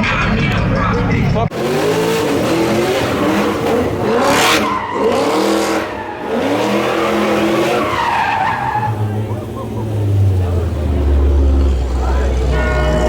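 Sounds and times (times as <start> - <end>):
tires squealing: 0.0 - 13.0
car engine revving hard: 1.5 - 13.0.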